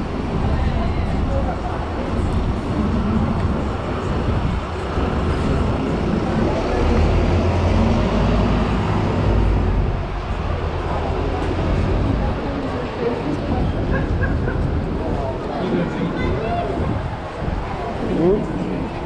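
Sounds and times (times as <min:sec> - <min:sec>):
bus running: 0:00.0 - 0:19.0
indistinct voices: 0:00.0 - 0:19.0
low rumble of road traffic: 0:00.0 - 0:19.0.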